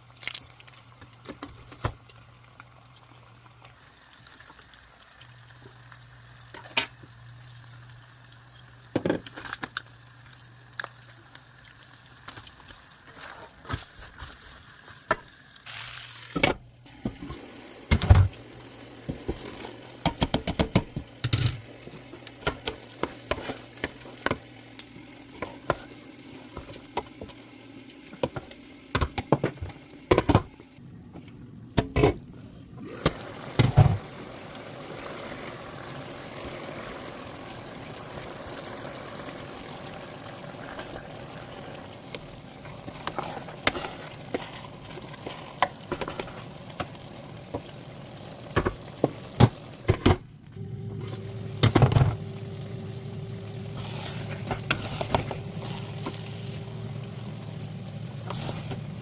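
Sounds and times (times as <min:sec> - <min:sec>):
food sizzling in a pan: 0:01.5 - 0:30.4, 0:32.8 - 0:59.0.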